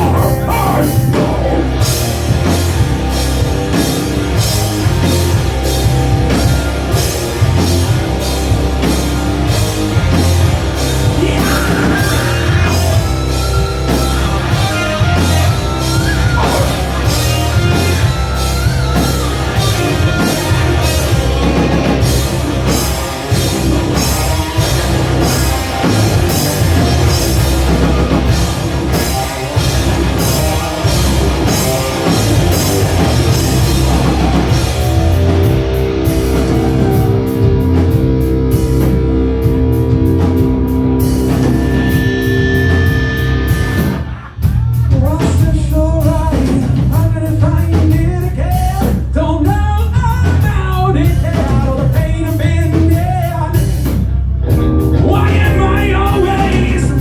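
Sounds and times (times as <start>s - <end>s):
drum kit beat with cymbals: 0.0s - 57.0s
rock band playing loud: 0.0s - 57.0s.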